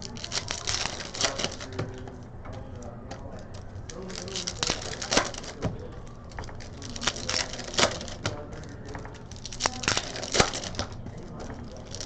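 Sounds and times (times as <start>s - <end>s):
light card rustling: 0.0s - 12.0s
trading cards clicking and snapping: 0.0s - 12.0s.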